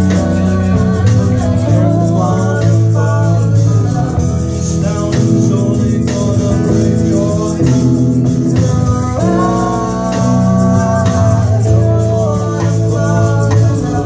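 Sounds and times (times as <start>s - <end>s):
live rock band playing: 0.0s - 14.0s
man singing: 0.0s - 14.0s
tambourine shaking: 0.0s - 14.0s.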